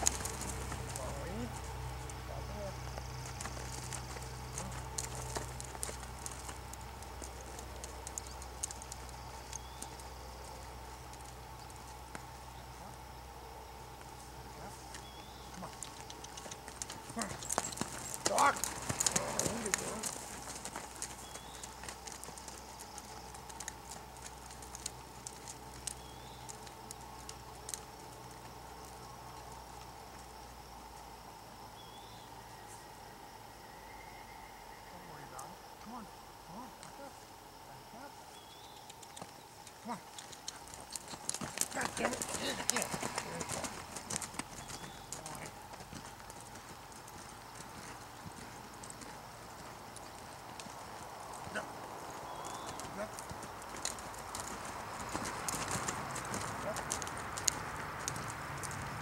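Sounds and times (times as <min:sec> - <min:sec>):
hooves and tack clicking: 0:00.0 - 0:32.2, 0:35.0 - 0:59.0
steady low hum: 0:00.0 - 0:59.0.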